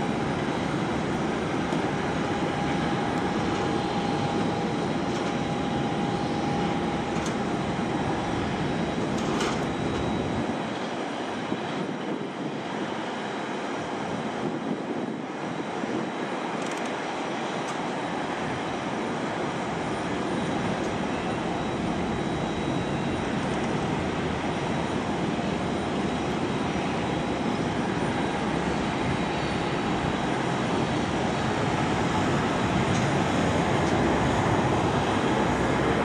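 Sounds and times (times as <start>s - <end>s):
distant jet engines taxiing: 0.0s - 36.0s.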